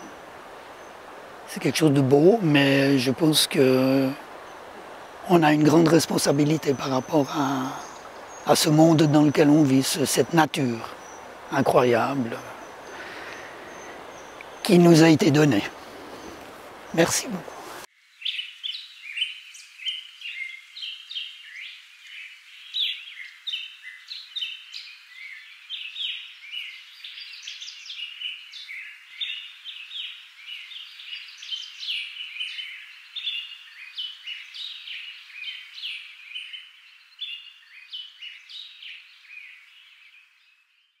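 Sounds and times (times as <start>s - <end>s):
songbirds chirping and singing: 0.0s - 41.0s.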